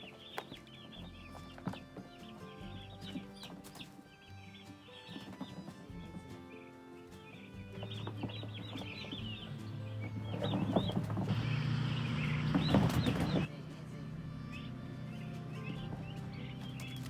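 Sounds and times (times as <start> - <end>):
background music: 0.0 - 17.0
poults peeping: 0.0 - 17.0.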